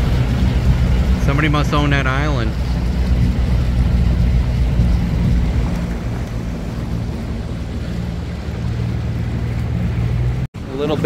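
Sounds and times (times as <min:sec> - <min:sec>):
wind noise on microphone: 0:00.0 - 0:10.5
outboard motor running: 0:00.0 - 0:11.0.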